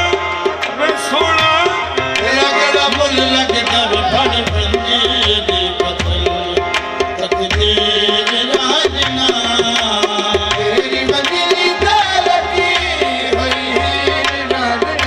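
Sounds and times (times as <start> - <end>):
harmonium melody: 0.0 - 15.0
tabla rhythm: 0.0 - 15.0.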